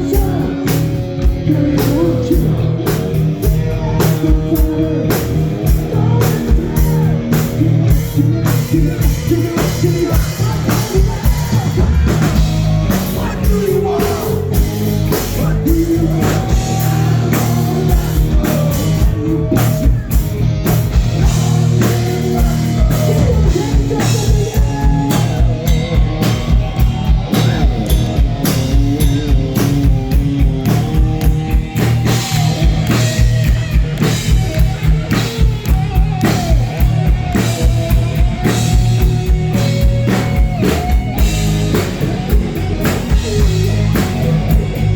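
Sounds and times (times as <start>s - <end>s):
drum kit beat: 0.0s - 44.9s
live rock band playing: 0.0s - 44.9s
person singing: 0.0s - 44.9s.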